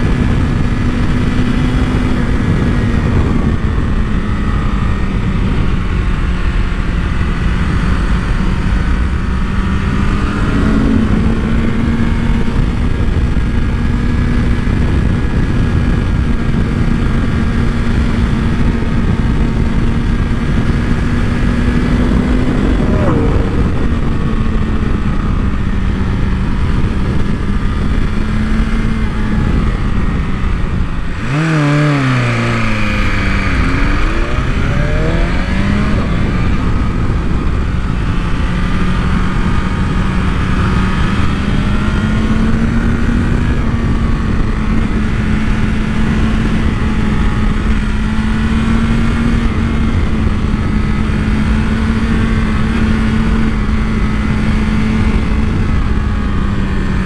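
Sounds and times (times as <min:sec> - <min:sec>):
motorbike engine revving: 0:00.0 - 0:57.0
wind rush on microphone: 0:00.0 - 0:57.0.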